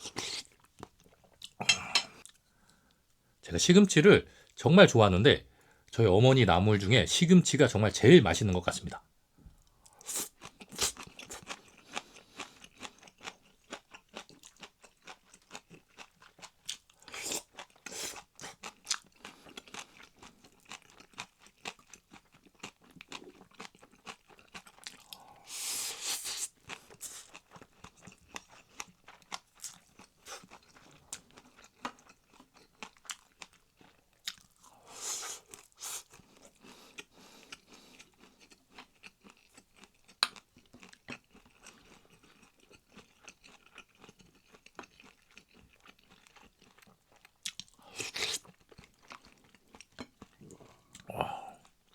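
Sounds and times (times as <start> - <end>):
person chewing crunchy food: 0.0 - 2.4, 9.8 - 51.9.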